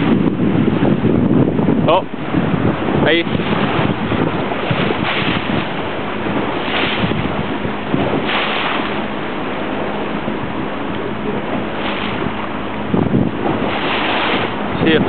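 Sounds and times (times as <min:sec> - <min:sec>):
water rushing past boat: 0:00.0 - 0:15.0
wind buffeting microphone: 0:00.0 - 0:15.0.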